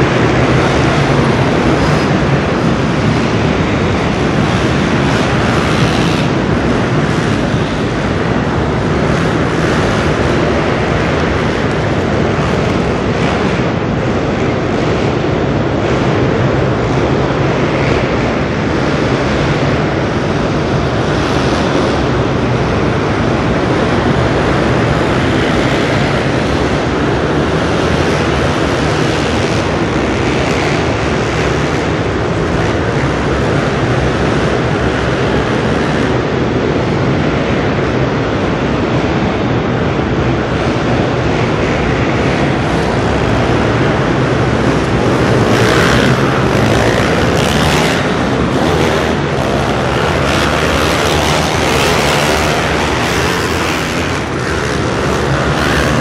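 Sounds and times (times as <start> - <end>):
motocross bike engines: 0.0 - 56.0.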